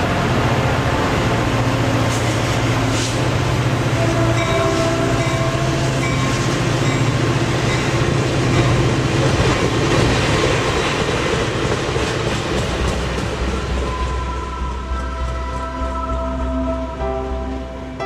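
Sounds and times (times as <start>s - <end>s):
train wheels on rails: 0.0s - 15.6s.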